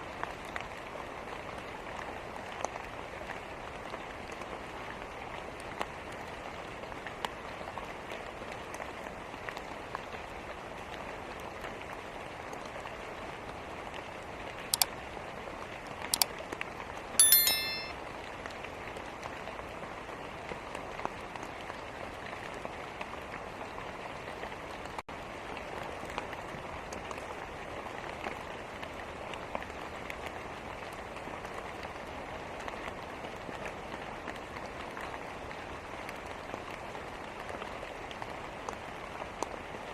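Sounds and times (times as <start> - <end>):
steady rain: 0.0 - 17.2, 18.4 - 39.9.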